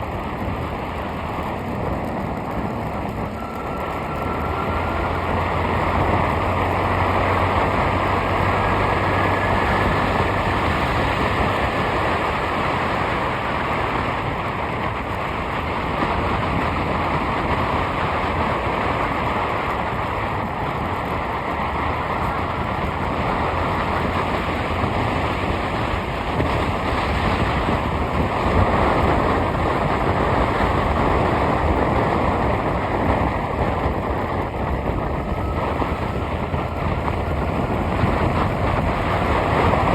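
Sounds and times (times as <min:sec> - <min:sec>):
low engine hum: 0:00.0 - 0:39.9
road and wind noise: 0:00.0 - 0:39.9.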